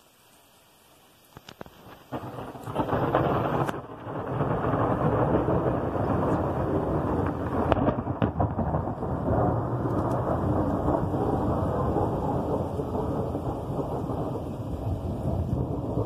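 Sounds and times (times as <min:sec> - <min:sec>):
heavy rain pouring: 0:00.0 - 0:16.0
low rumble of thunder: 0:01.7 - 0:16.0.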